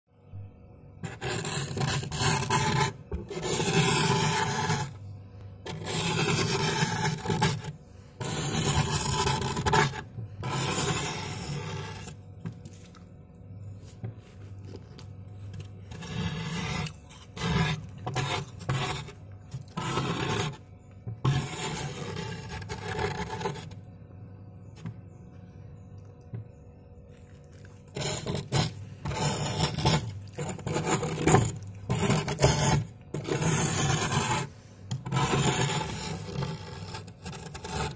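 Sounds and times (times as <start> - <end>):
metal spoon scraping frost: 1.0 - 13.0, 13.8 - 23.8, 27.5 - 37.9.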